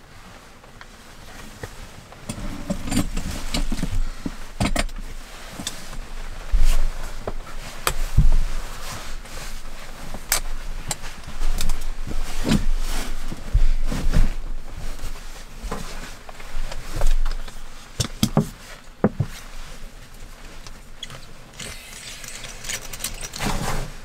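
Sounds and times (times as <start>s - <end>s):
fabric rustling: 0.1s - 24.0s.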